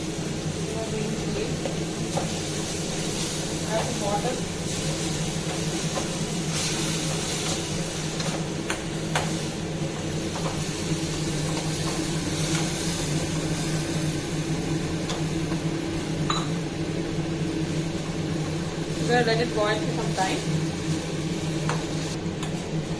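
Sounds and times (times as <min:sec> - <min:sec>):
kitchen appliance motor hum: 0:00.0 - 0:22.9.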